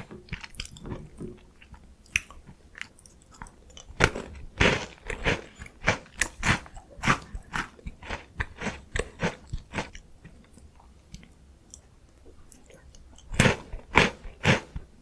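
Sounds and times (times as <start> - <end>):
crunchy chewing of biscuit: 0.0 - 15.0.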